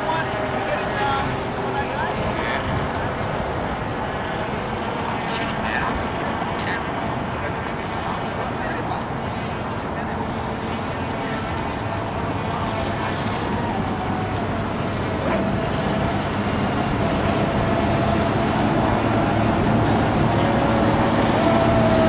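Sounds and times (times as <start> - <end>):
model speedboat motors: 0.0 - 22.0.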